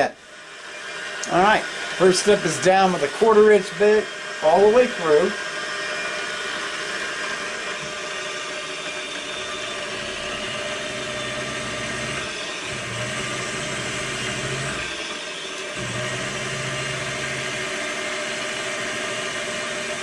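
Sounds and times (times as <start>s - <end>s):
milling machine whirring: 0.0s - 20.0s.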